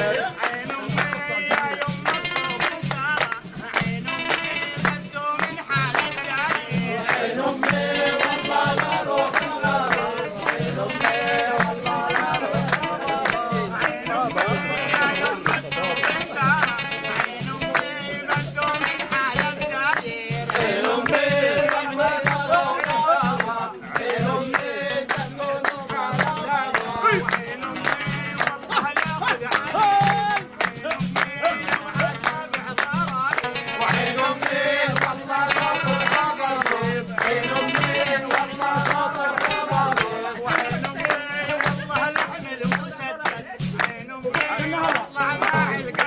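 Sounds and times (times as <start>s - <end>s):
percussion beat of sharp hits: 0.0s - 46.0s.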